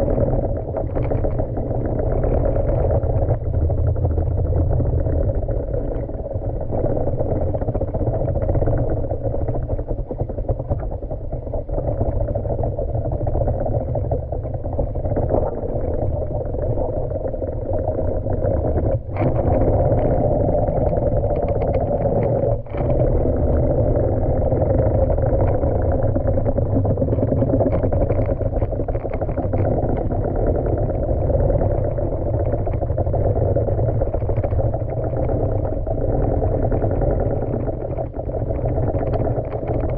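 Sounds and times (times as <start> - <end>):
muffled underwater pool vacuum rushing: 0.0 - 39.9.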